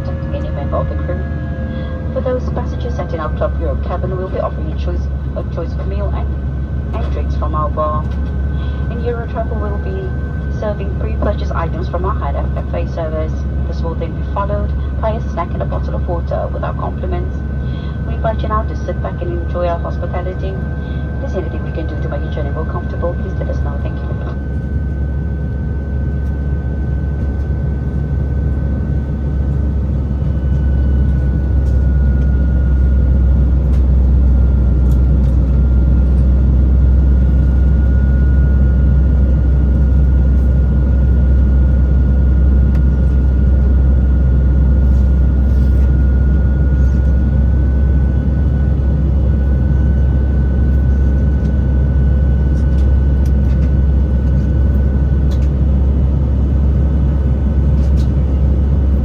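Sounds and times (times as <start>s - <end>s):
jet engine cabin roar: 0.0s - 59.0s.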